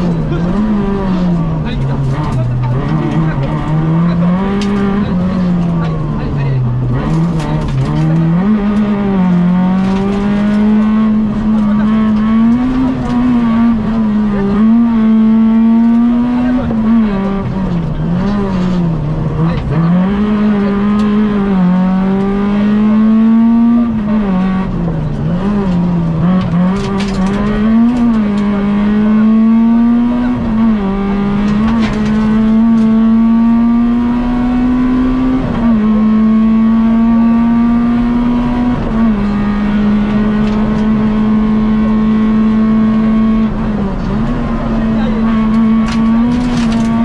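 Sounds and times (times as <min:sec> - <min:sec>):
rally car engine revving: 0:00.0 - 0:47.0.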